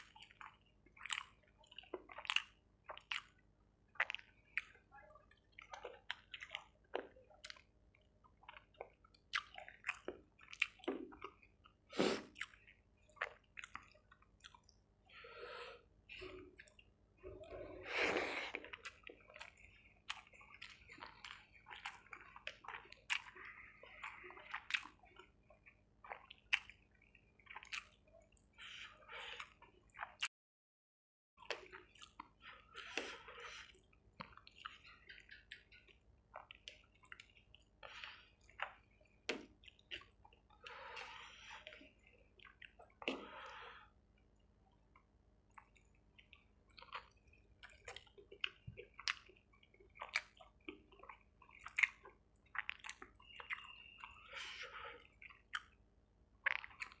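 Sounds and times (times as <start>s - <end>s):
wet chewing and lip-smacking: 0.0s - 30.3s, 31.4s - 57.0s.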